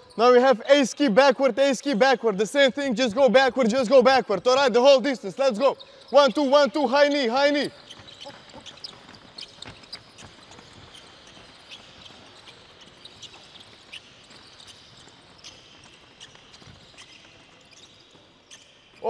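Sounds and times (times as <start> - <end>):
shoe squeaks: 0.0 - 19.0.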